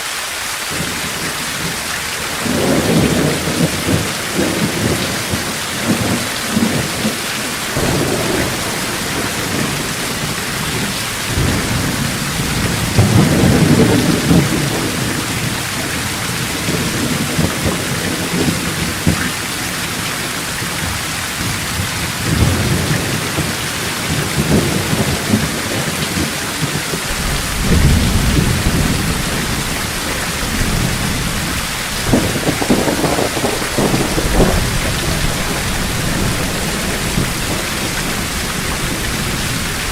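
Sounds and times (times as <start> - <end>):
heavy rain falling: 0.0 - 39.9
thunder rumbling: 0.7 - 39.9.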